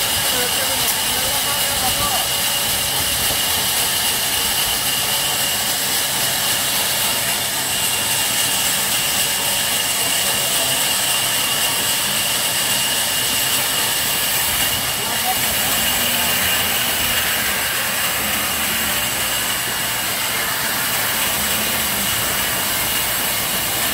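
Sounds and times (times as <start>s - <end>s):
band saw running: 0.0s - 23.9s.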